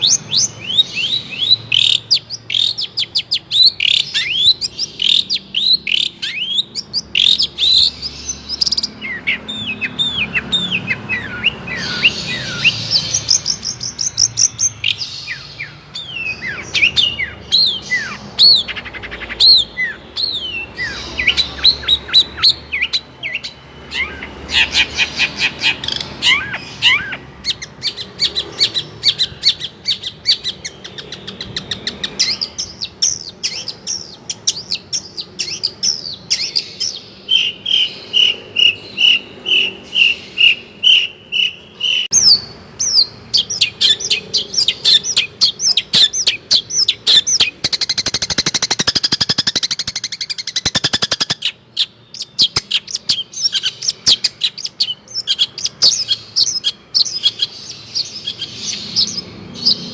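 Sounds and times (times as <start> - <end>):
shrike singing: 0.0 - 59.9.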